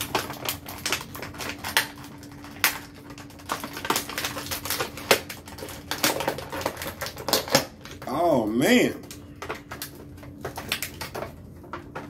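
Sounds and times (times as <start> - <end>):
plastic packaging clicks and rustles: 0.0 - 12.0.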